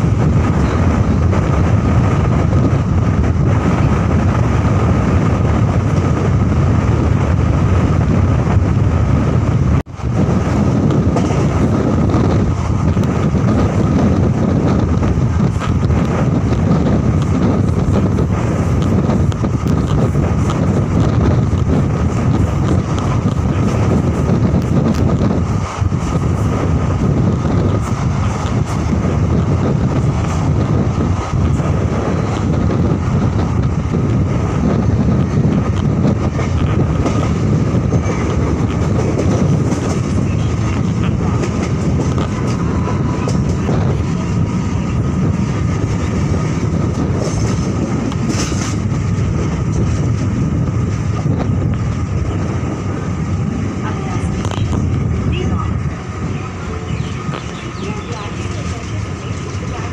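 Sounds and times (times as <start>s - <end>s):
train wheels rumbling on rails: 0.0s - 59.9s
wind buffeting microphone: 0.0s - 59.9s.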